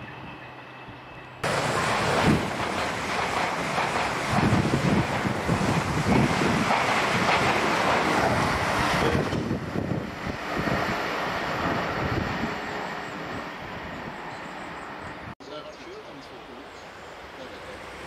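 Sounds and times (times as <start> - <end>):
train passing at speed: 0.0 - 15.4, 16.0 - 18.0.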